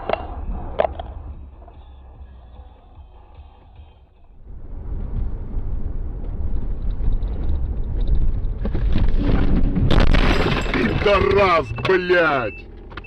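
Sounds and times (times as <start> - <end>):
car road and engine rumble: 0.0 - 13.0
rattling noises: 0.0 - 13.0.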